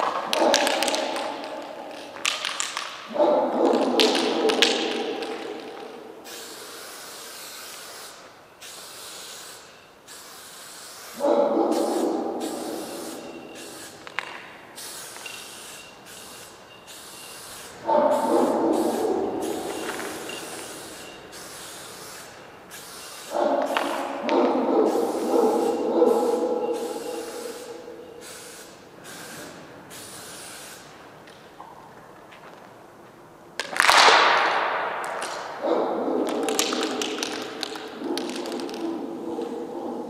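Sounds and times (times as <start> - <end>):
spray paint can hissing: 0.0 - 3.1, 3.7 - 31.1, 36.2 - 39.6.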